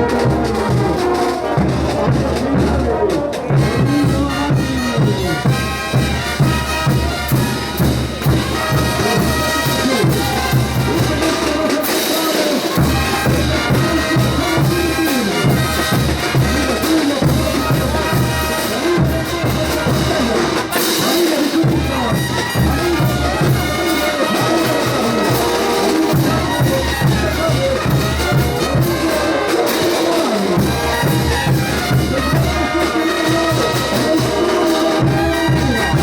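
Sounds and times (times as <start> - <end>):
bass drum and percussion beat: 0.0 - 36.0
brass band playing dance music: 0.0 - 36.0.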